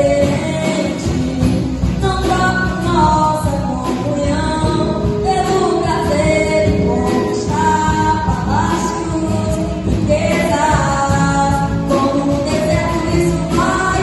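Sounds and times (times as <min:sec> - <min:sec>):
band accompaniment: 0:00.0 - 0:14.0
woman singing: 0:00.0 - 0:14.0.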